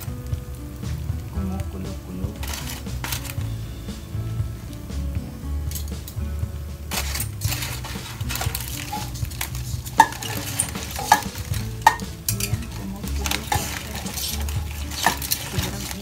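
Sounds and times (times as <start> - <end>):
chicken sizzling in a wok: 0.0 - 16.0.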